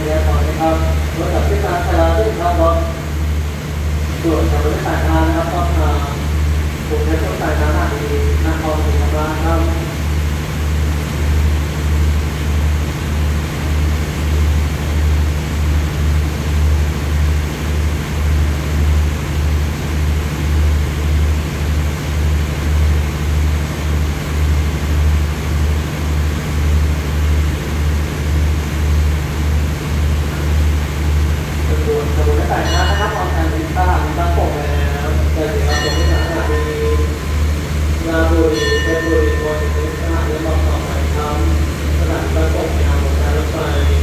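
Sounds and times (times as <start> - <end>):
diesel train engine idling: 0.0 - 44.0.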